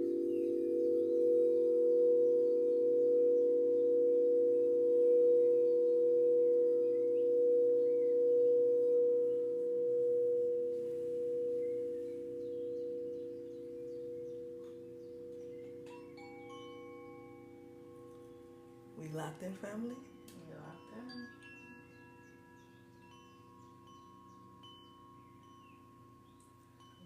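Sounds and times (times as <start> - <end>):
singing bowl ringing: 0.0 - 27.0
faint bird chirps: 5.0 - 27.0.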